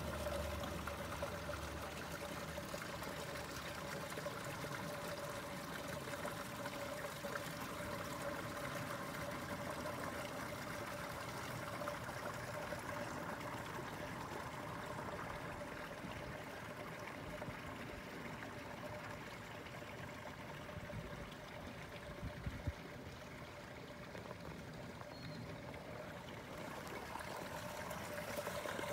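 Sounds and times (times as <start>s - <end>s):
water trickling through a channel: 0.0s - 28.9s.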